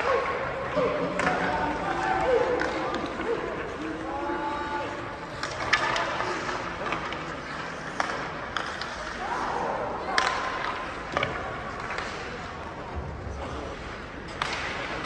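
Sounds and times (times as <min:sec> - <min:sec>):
sticks hitting puck: 0:00.0 - 0:04.3, 0:04.9 - 0:15.0
skates scraping ice: 0:00.0 - 0:15.0.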